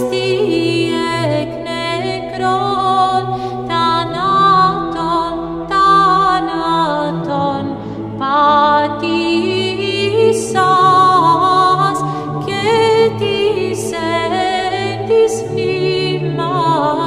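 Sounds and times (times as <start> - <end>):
choir chanting a cappella: 0.0 - 17.0
low held drone: 0.0 - 17.0.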